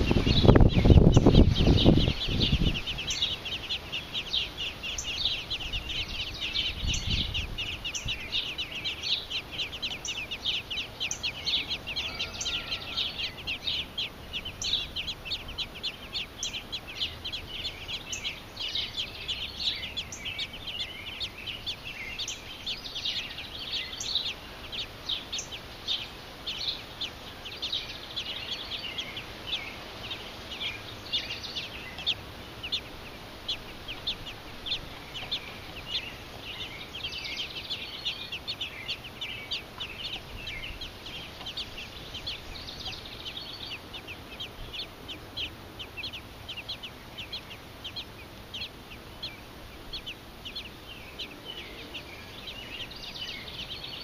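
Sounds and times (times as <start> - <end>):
nestlings peeping: 0.0 - 54.0.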